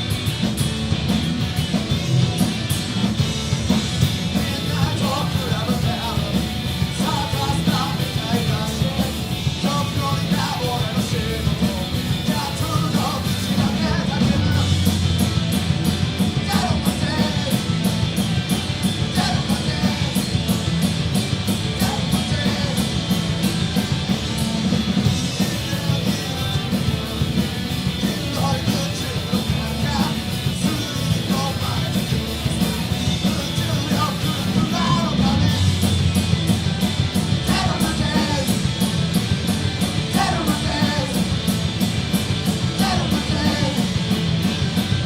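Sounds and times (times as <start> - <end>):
live punk rock band: 0.0 - 45.0.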